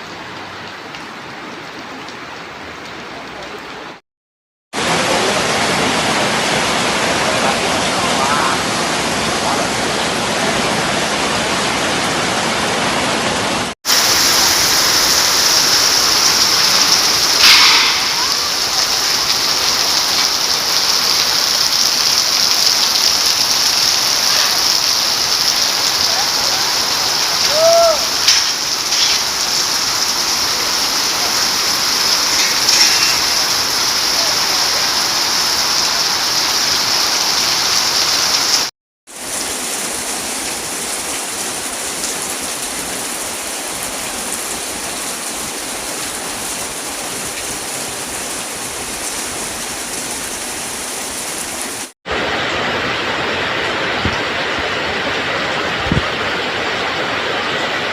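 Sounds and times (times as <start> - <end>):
heavy rain pouring: 0.0 - 4.0, 4.8 - 57.9.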